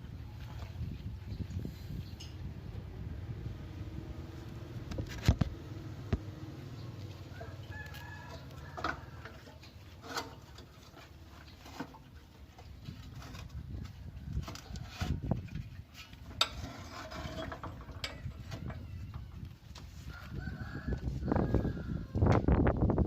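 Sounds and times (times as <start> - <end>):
low steady rumble: 0.0 - 20.1.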